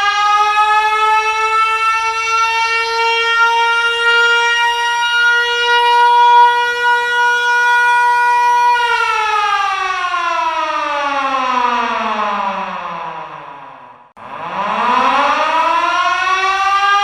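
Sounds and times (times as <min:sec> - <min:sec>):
siren alarm winding down: 0:00.0 - 0:17.0.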